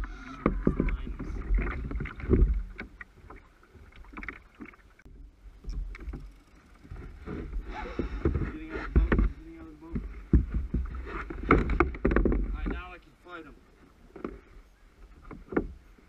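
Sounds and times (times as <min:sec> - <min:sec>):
kayak hull knocking: 0:00.0 - 0:06.3, 0:06.9 - 0:12.9, 0:14.1 - 0:16.0
water splashing against kayak: 0:00.0 - 0:16.0.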